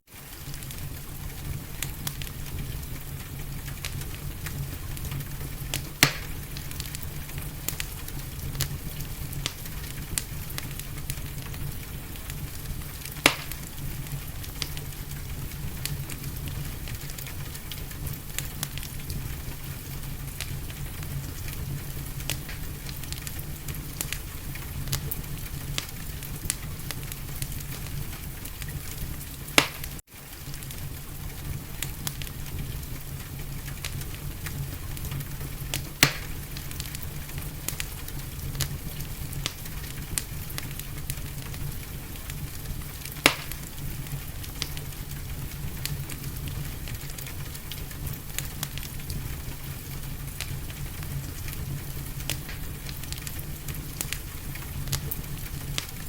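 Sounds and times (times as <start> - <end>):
steady hiss and low rumble: 0.0 - 56.0
wood fire crackling: 0.0 - 56.0
loud pops of fire: 0.1 - 56.0.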